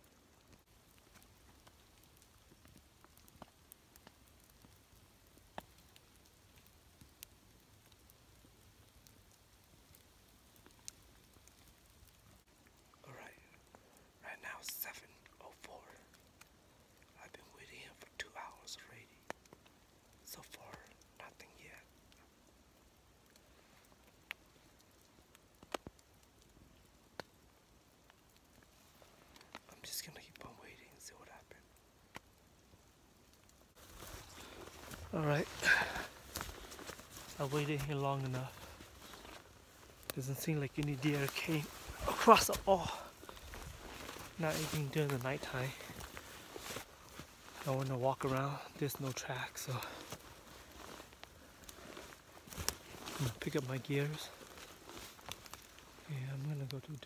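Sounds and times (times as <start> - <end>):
rain and snow ticking: 0.0 - 57.0.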